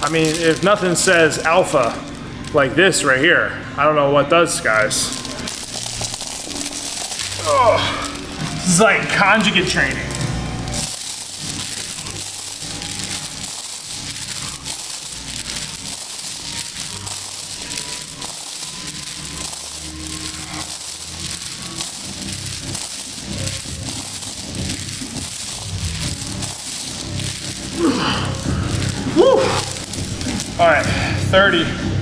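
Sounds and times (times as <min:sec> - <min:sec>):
heavy chains clinking: 0:00.0 - 0:02.8, 0:04.7 - 0:31.6.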